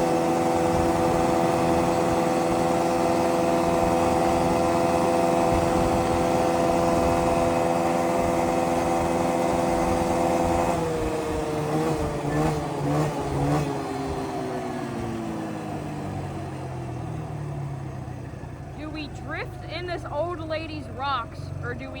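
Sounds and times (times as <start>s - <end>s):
atv engine running: 0.0s - 22.0s
engine throttle blips: 0.0s - 22.0s.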